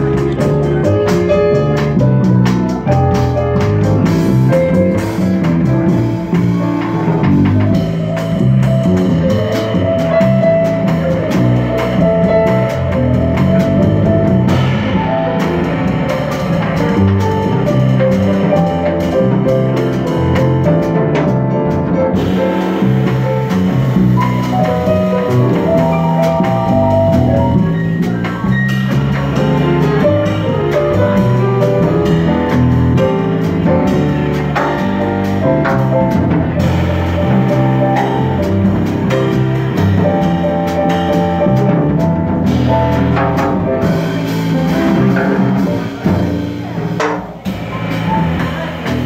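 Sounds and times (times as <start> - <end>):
drum kit keeping time: 0.0 - 49.0
plucked double bass solo: 0.0 - 49.0.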